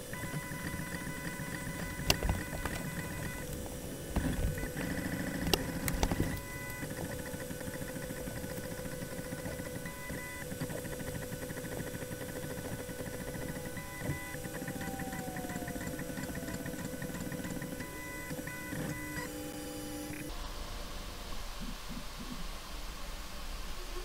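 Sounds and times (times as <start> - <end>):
stepper motors fine ticking: 0.1 - 20.2.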